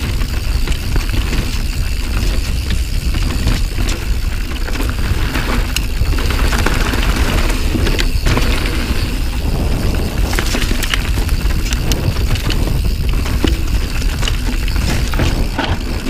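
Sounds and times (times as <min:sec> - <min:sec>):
bike clicking and rattling: 0:00.0 - 0:16.0
tyre and wind rumble: 0:00.0 - 0:16.0.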